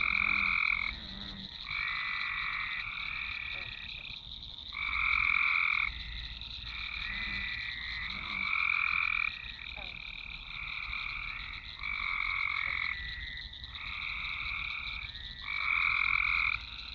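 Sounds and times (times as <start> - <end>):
frogs trilling: 0.0 - 16.9.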